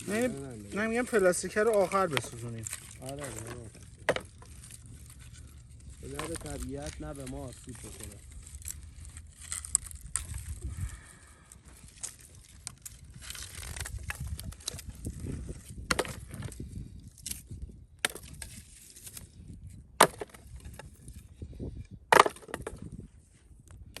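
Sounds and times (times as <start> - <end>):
firewood cracking: 0.0 - 23.1, 23.8 - 24.0.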